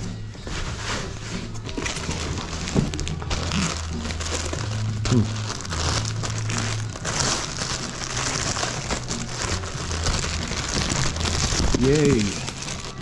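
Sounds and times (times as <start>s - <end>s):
plastic bag crinkling and tearing: 1.0s - 13.0s.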